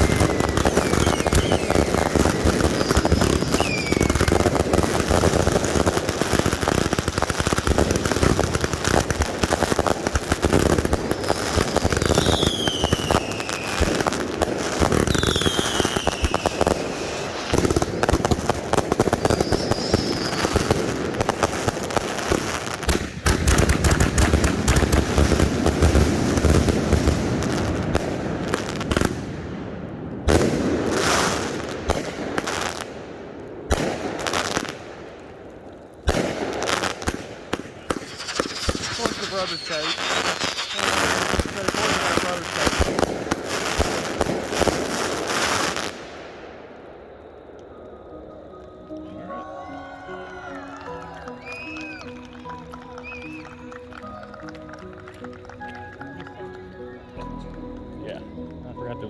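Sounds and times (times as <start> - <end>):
falling firework whistles: 0.0 - 27.9, 36.0 - 57.4
fireworks bangs and crackle: 0.0 - 49.9, 50.5 - 59.0.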